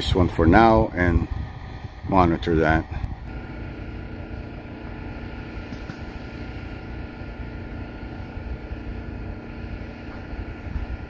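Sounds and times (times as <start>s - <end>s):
faint steady hum: 0.0s - 11.0s
wind buffeting microphone: 0.0s - 11.0s.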